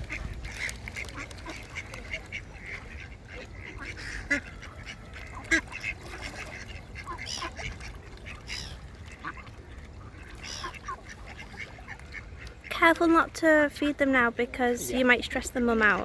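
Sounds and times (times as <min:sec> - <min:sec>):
ducks quacking: 0:00.0 - 0:13.3.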